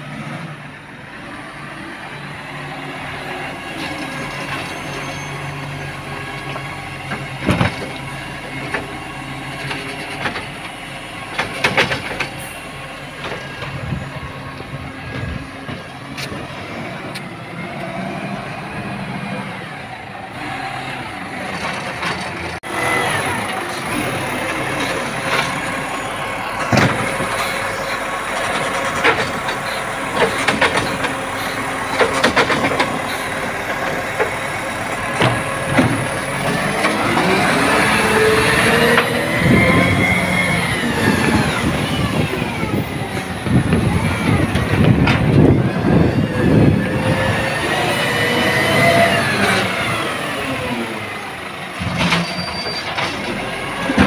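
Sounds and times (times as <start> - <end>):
garbage truck engine running: 0.0 - 54.0.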